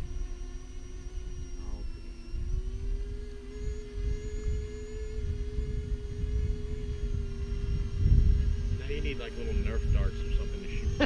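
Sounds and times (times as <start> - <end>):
electric motors and propellers whining: 0.0 - 11.0
wind rumble on microphone: 0.0 - 11.0.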